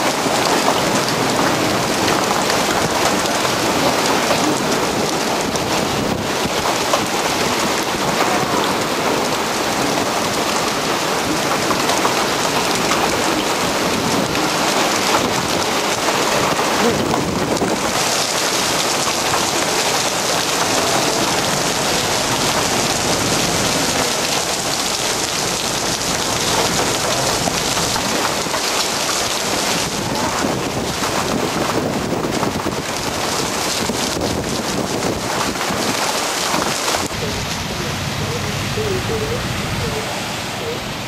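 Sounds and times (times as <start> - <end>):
heavy rain and hail on pavement: 0.0 - 41.0.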